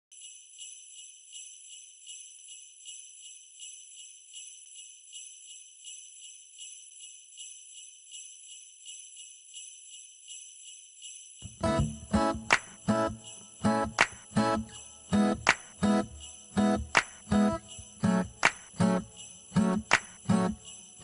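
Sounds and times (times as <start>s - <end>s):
jingle bells shaking: 0.1s - 21.0s.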